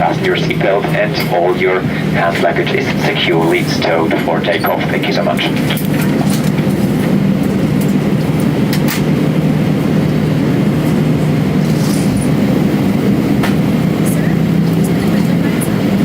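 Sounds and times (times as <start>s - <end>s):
jet engine drone in cabin: 0.0s - 16.0s.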